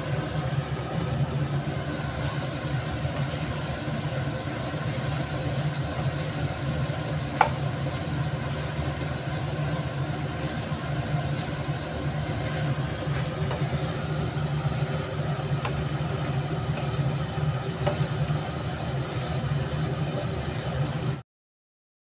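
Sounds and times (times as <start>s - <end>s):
kitchen fan humming: 0.0s - 21.2s
wooden spatula stirring in pan: 0.0s - 21.2s.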